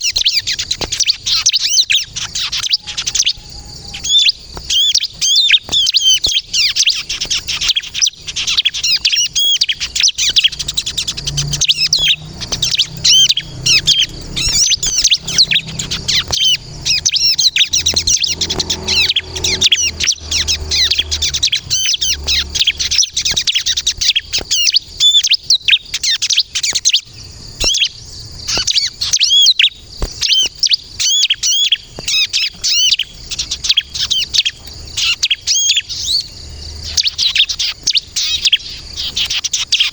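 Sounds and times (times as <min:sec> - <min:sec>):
bird singing high chirping phrases: 0:00.0 - 0:39.9.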